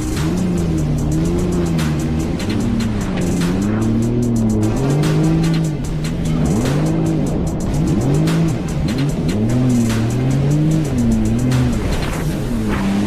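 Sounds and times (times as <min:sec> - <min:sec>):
fast-beat background music: 0:00.0 - 0:13.0
jet ski engine revving: 0:00.0 - 0:13.0.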